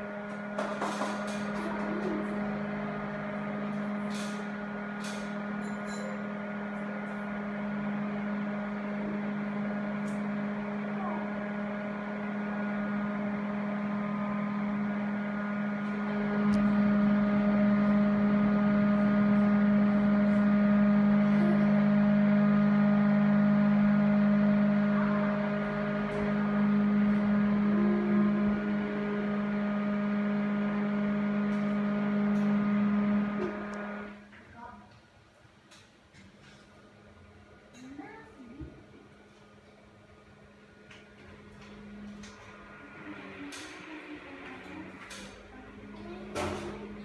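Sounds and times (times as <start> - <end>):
exhaust fan motor humming: 0.0 - 34.8, 35.6 - 47.0.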